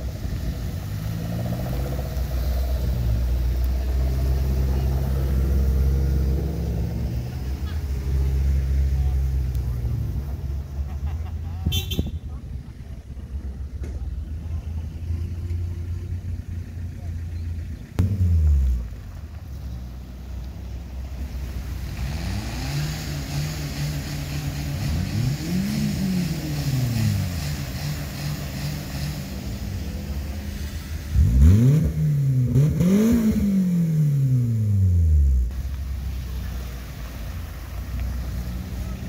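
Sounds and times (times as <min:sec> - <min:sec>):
engine revs: 0:00.0 - 0:10.6, 0:13.4 - 0:39.0
cars driving past: 0:00.0 - 0:39.0.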